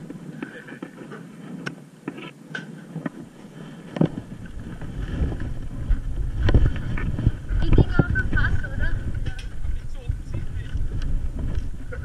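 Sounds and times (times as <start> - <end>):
footsteps: 0.0 - 12.0
microphone handling rumble: 0.0 - 12.0.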